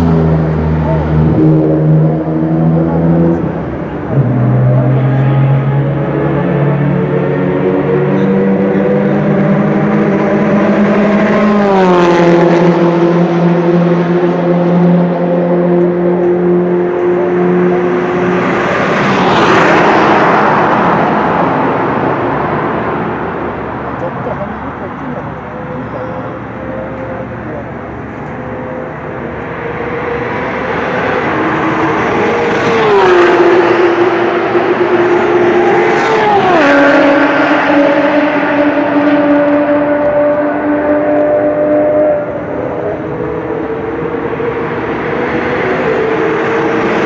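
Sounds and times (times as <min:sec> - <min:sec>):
sports car engines passing: 0:00.0 - 0:47.0.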